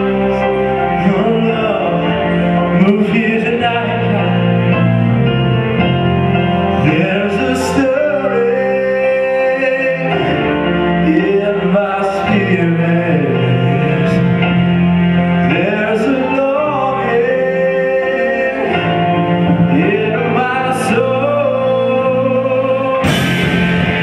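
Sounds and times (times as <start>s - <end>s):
man singing: 0.0s - 5.1s, 6.6s - 23.4s
live band playing: 0.0s - 24.0s.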